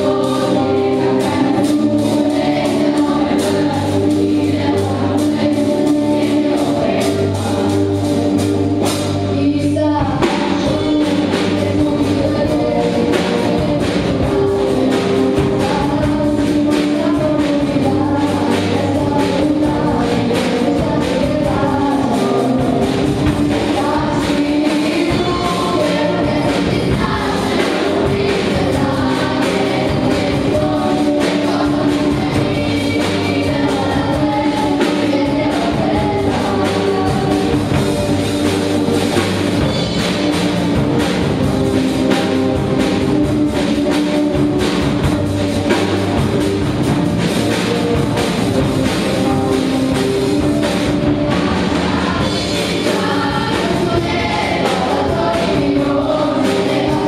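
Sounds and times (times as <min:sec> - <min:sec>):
girl singing lead: 0:00.0 - 0:40.4, 0:48.5 - 0:57.0
children's choir singing: 0:00.0 - 0:57.0
drum kit: 0:00.0 - 0:57.0.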